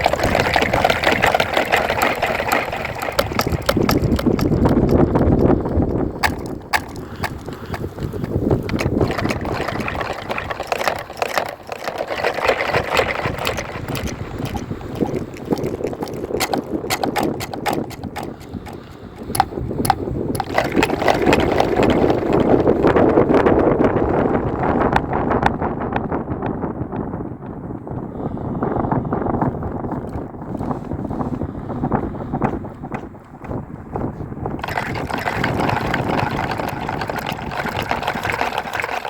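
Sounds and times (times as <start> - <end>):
sharp clicks and drips: 0.0 - 23.0, 30.0 - 39.0
water sloshing and gurgling: 0.0 - 24.0, 28.0 - 39.0.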